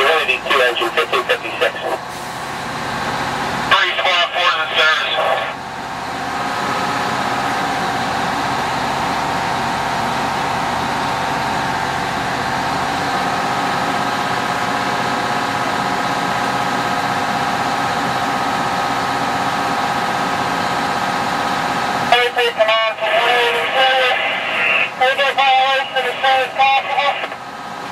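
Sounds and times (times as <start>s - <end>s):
fire engine pump whine: 0.0s - 27.9s
fire engine rumble: 0.0s - 27.9s.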